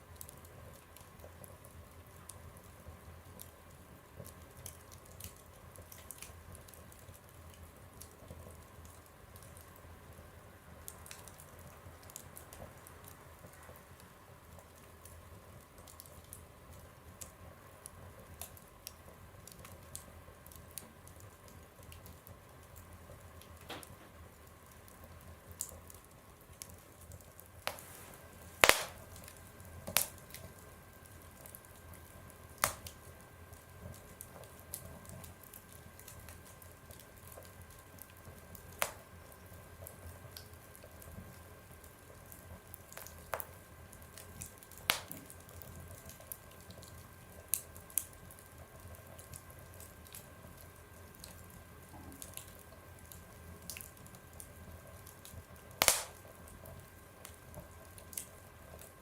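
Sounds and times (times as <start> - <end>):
wood fire crackling in stove: 0.0 - 59.0.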